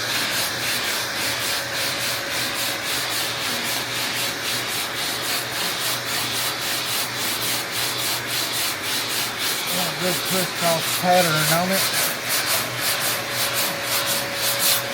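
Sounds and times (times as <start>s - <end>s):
sandpaper rasping on metal: 0.0s - 14.9s.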